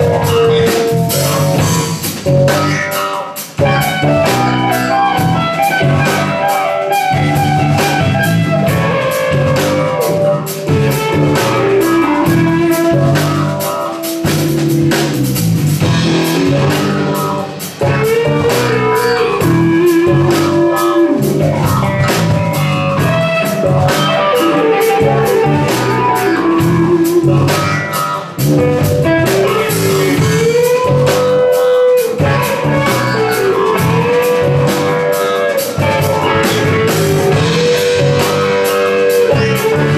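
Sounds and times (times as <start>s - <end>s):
drum kit beat: 0.0s - 39.9s
electric guitar lead: 0.0s - 39.9s.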